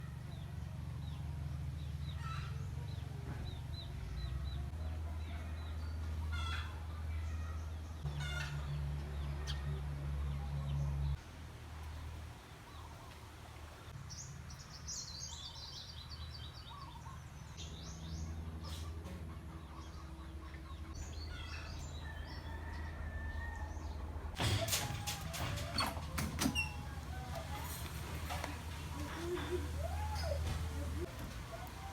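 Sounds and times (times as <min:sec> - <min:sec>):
birds calling: 0:00.0 - 0:11.2, 0:12.4 - 0:31.9.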